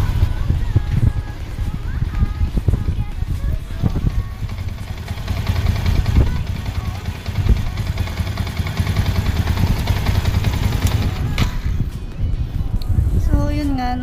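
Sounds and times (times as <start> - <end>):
motorcycle engine idling: 0.0 - 12.1.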